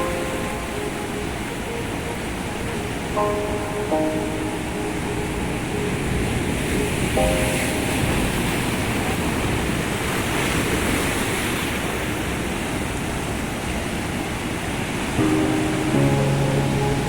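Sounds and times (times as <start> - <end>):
surf waves breaking: 0.0 - 17.0.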